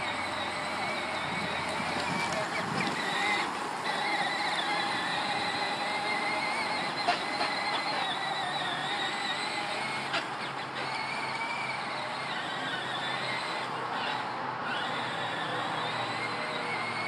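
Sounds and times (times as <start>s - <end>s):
electric toy motor whine: 0.0s - 17.0s.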